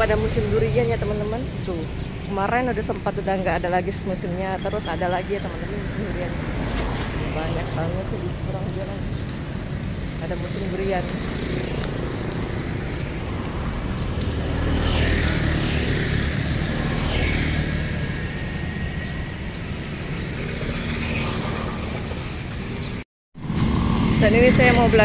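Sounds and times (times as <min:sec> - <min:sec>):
passing motorbikes and cars: 0:00.0 - 0:25.0.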